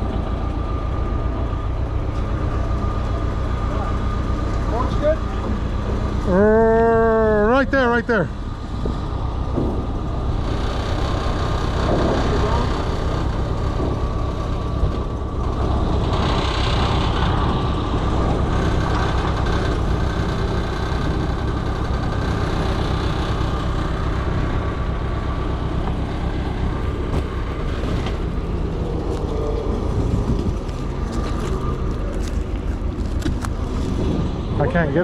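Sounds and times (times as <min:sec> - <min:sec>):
forklift engine running: 0:00.0 - 0:35.0.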